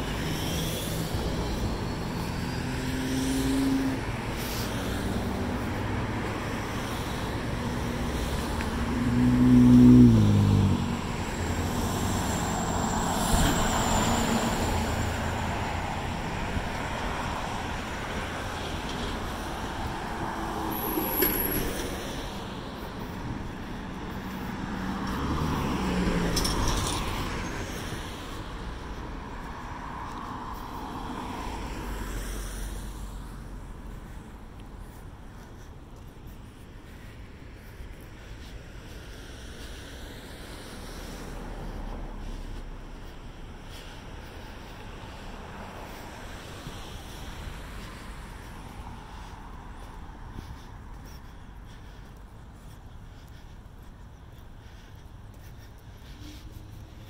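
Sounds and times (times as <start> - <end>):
cars passing by: 0.0 - 57.0.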